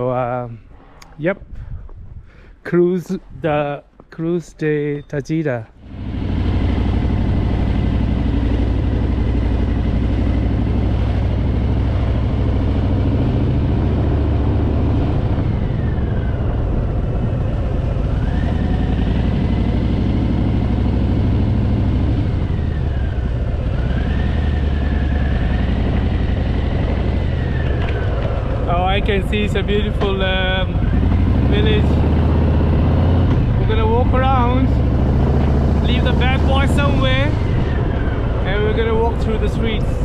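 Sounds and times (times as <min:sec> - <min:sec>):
motorcycle engine running: 0:05.8 - 0:40.0.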